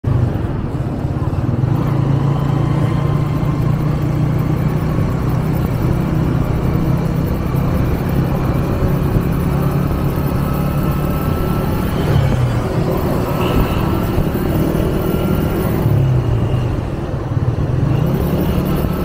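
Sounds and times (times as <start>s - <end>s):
motorcycle engine running: 0.1s - 19.0s.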